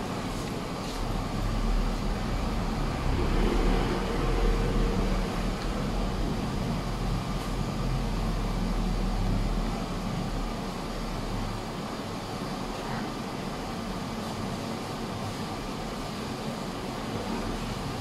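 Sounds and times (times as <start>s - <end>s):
low rumbling background noise: 0.0s - 18.0s.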